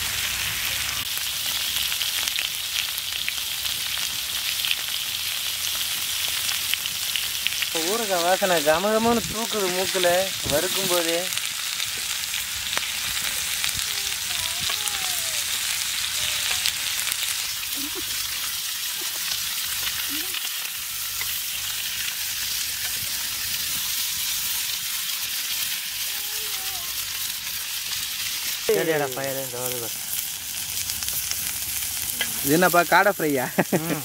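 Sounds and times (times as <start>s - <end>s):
food sizzling in a pan: 0.0s - 34.0s.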